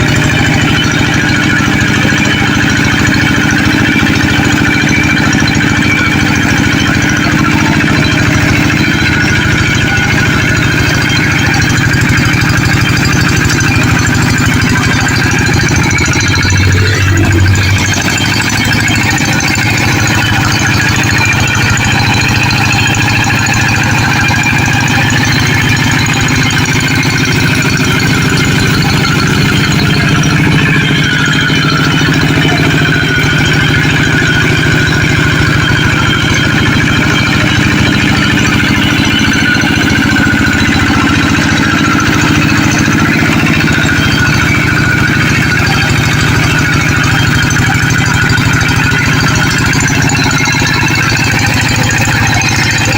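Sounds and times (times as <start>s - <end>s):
tractor diesel engine chugging: 0.0s - 52.9s.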